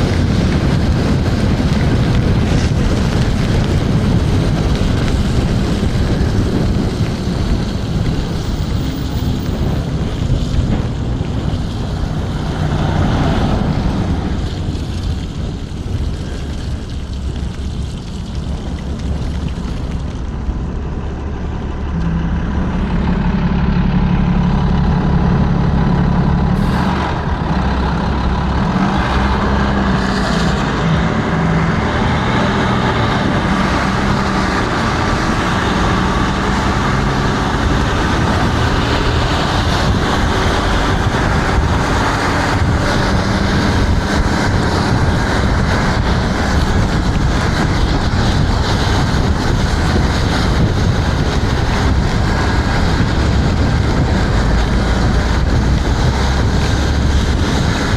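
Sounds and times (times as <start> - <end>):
heavy vehicle engine drone: 0.0 - 57.9
wet road noise: 0.0 - 57.9
wind rushing: 0.0 - 57.9.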